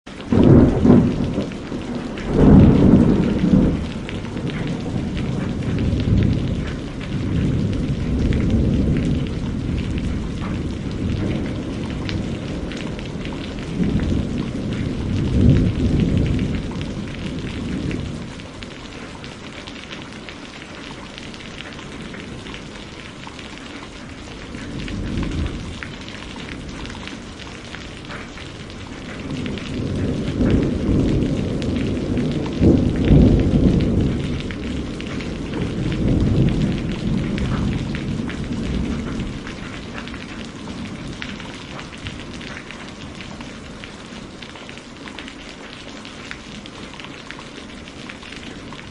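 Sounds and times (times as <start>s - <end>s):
steady rain falling: 0.0s - 48.9s
rolling thunder: 0.2s - 20.0s, 21.3s - 44.5s.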